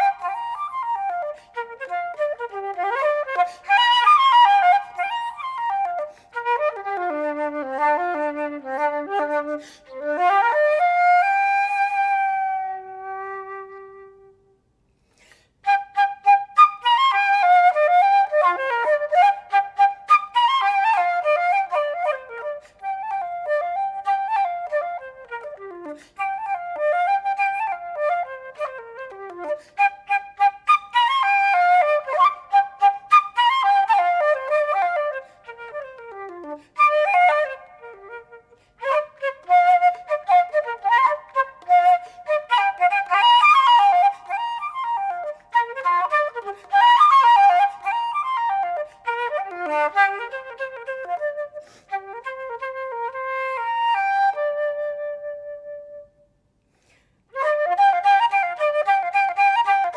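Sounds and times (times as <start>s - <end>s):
solo flute playing: 0.0s - 14.6s, 15.2s - 59.9s.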